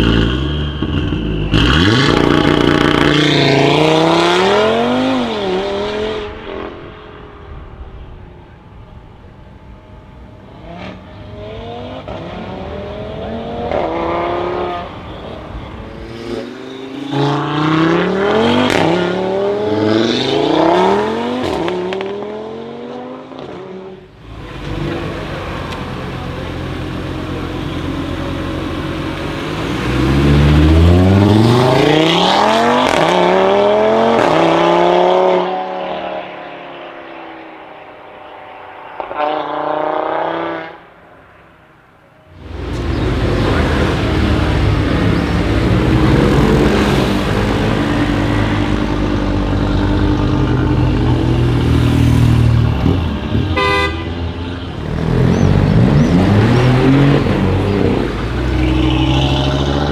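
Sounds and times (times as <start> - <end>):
car engine accelerating hard: 0.0 - 41.2, 42.3 - 59.9.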